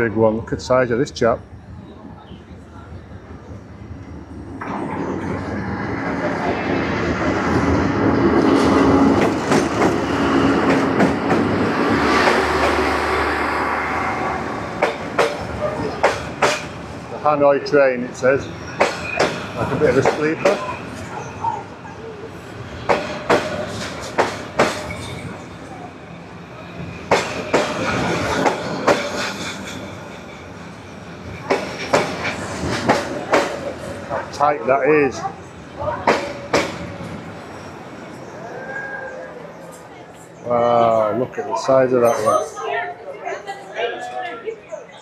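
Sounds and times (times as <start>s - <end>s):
train wheels rumbling on rails: 0.0s - 40.4s.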